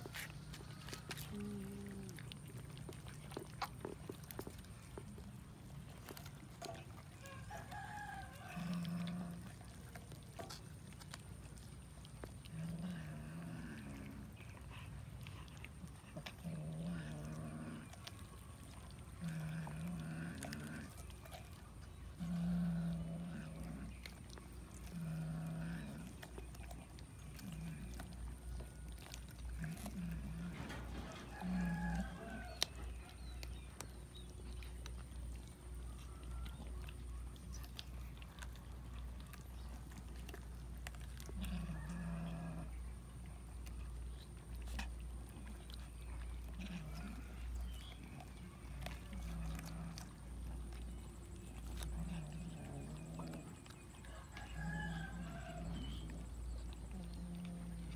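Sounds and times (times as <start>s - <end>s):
cats growling: 0.0s - 57.9s
wet chewing and tearing: 0.0s - 57.9s.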